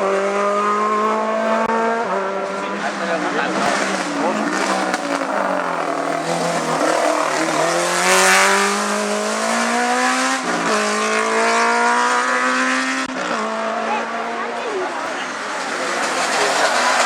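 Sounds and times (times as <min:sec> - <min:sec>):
race car engine at full throttle: 0:00.0 - 0:17.0.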